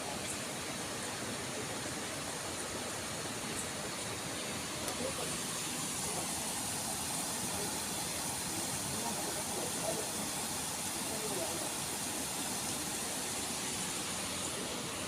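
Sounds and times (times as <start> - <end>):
faint distant voices: 0.0 - 15.0.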